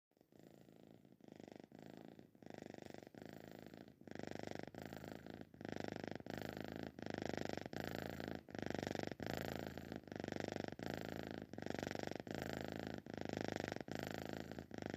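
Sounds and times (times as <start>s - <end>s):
cat purring: 0.1s - 14.9s.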